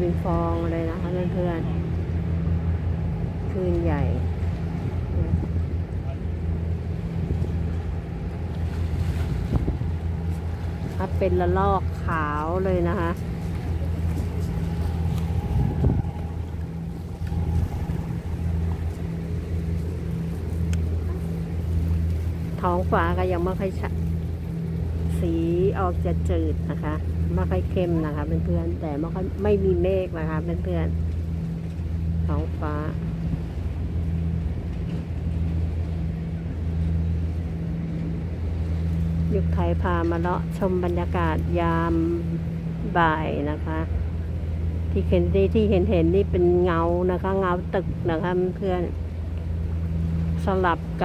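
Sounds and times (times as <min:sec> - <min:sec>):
boat diesel engine droning: 0:00.0 - 0:51.0
water noise: 0:00.0 - 0:51.0
wind buffeting microphone: 0:00.0 - 0:51.0.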